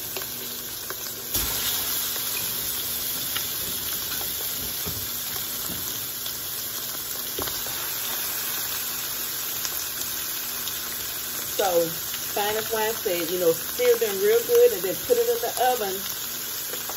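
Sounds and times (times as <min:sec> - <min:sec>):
chicken sizzling in a skillet: 0:00.0 - 0:16.9.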